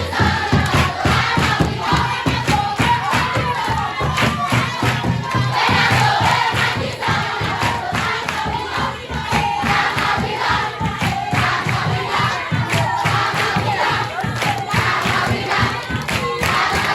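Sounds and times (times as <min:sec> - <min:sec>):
group of voices singing: 0:00.0 - 0:16.9
steady rhythmic beat: 0:00.0 - 0:16.9.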